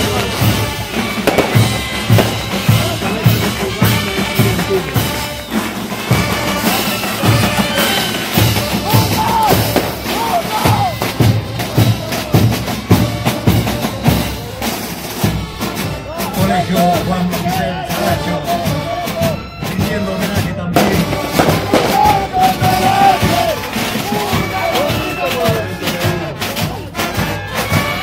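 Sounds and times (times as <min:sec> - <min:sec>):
bass and snare drums: 0:00.0 - 0:28.0
horn notes: 0:00.0 - 0:28.0.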